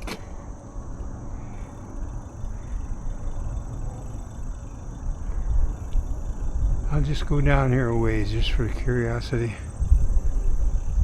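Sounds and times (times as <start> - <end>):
bicycle ride noise: 0.0 - 11.0
faint high drone of insects: 0.0 - 11.0
wind rumbling on microphone: 0.8 - 11.0.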